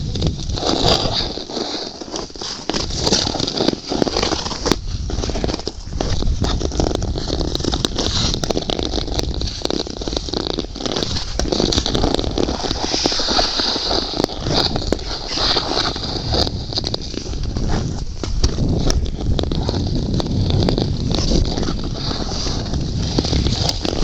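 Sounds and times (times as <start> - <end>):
ice skates scraping on ice: 0.0 - 24.0
wind rumbling on microphone: 0.0 - 24.0.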